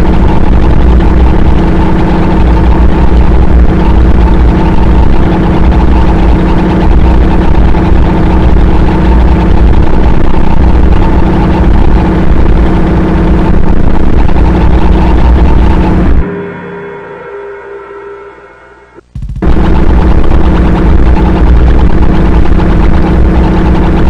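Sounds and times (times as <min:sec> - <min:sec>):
deep rumble: 0:00.0 - 0:24.0
harsh distorted noise music: 0:00.0 - 0:24.0
steady droning pitches: 0:00.0 - 0:24.0.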